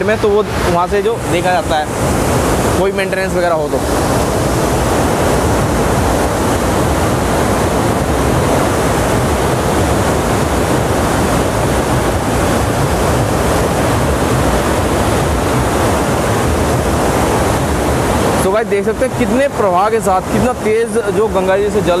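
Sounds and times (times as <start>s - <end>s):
water rushing through gate: 0.0s - 22.0s.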